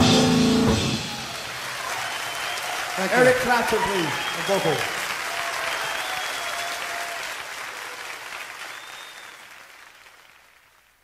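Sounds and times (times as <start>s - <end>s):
audience applauding: 0.7s - 11.0s.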